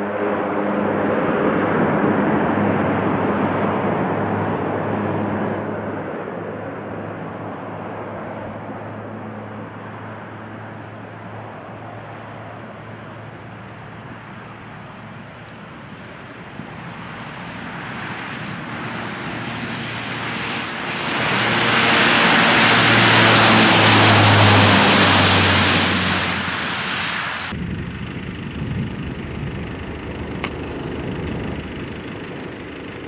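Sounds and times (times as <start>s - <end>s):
turboprop aircraft engines: 0.0s - 33.0s.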